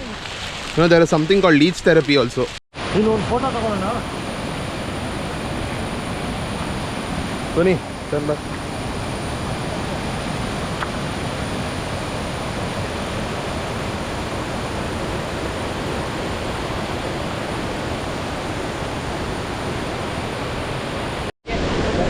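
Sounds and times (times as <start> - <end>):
waterfall rushing: 2.8 - 22.0.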